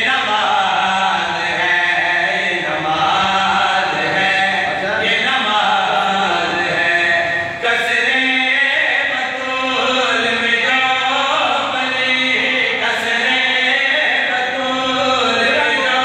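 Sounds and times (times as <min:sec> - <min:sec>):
men chanting into a microphone: 0:00.0 - 0:16.0.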